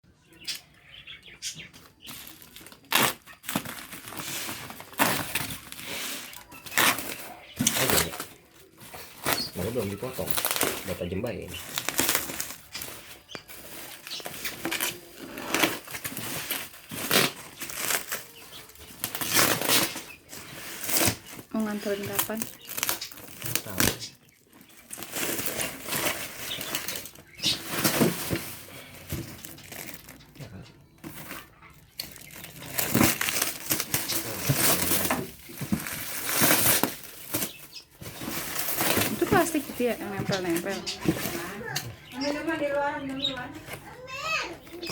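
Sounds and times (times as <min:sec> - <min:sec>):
packaging rustling and crinkling: 0:01.7 - 0:44.0.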